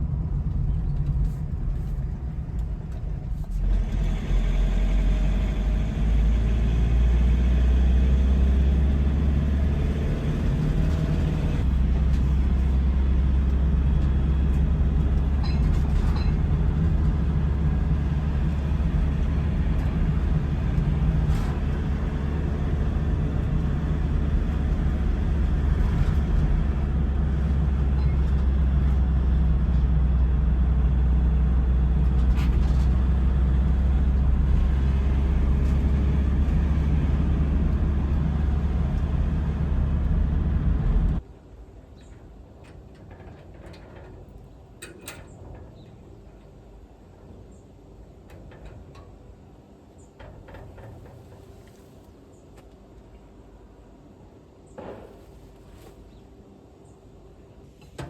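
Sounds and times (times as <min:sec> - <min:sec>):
engine deep hum: 0:00.0 - 0:49.4.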